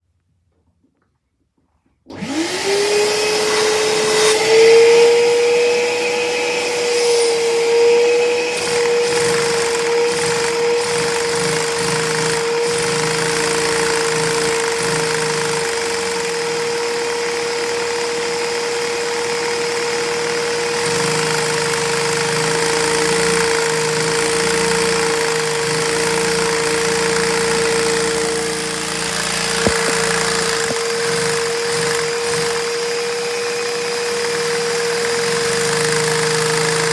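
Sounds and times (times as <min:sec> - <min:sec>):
vacuum cleaner motor whining: 0:02.1 - 0:36.9.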